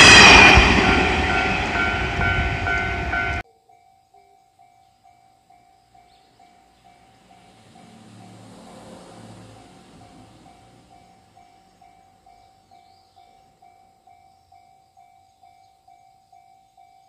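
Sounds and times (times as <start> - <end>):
train rolling on rails: 0.0 - 3.4, 6.0 - 17.0.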